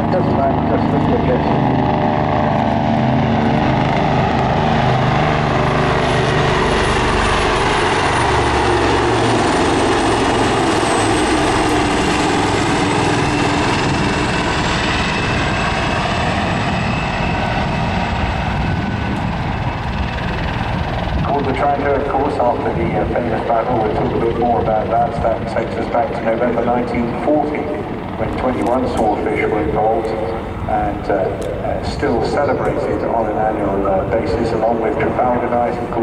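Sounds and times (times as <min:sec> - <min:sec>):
aircraft engines and rotors droning: 0:00.0 - 0:36.0.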